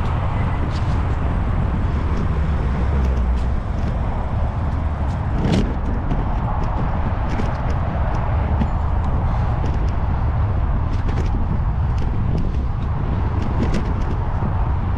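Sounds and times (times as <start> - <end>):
bicycle tyre and road noise: 0.0 - 14.9
car traffic: 0.0 - 14.9
wind rumble on microphone: 0.0 - 14.9.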